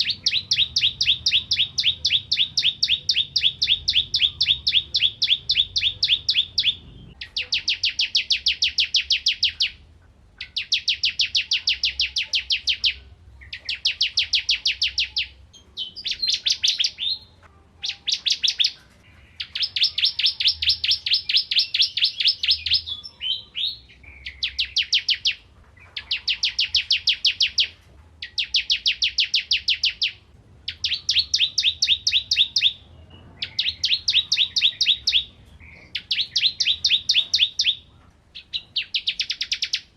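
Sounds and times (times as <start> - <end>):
bird singing sharp high notes: 0.0 - 9.8, 10.4 - 25.4, 26.0 - 39.9.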